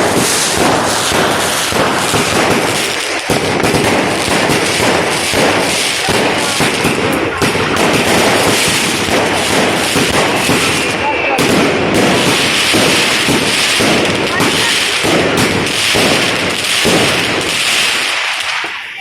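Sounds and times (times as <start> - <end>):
fireworks and firecrackers banging: 0.0 - 19.0.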